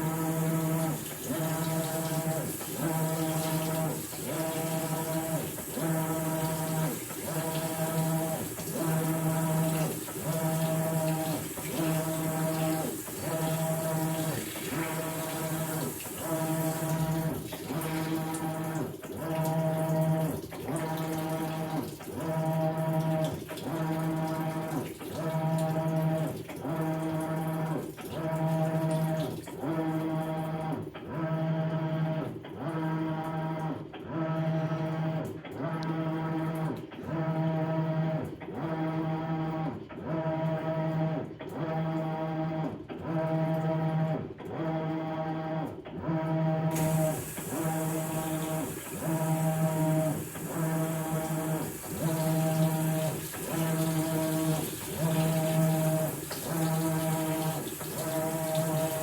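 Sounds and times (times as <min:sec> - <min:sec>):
washer motor humming in pulses: 0:00.0 - 0:59.0.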